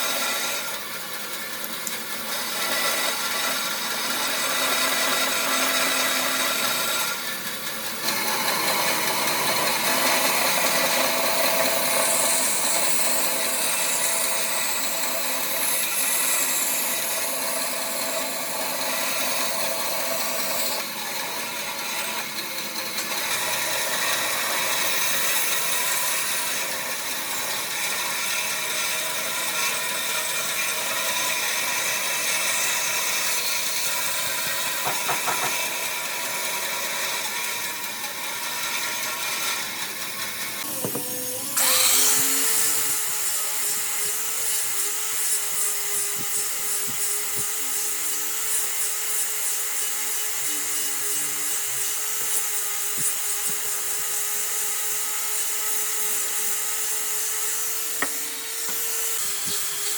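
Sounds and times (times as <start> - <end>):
power tool running on wood: 0.0 - 59.9.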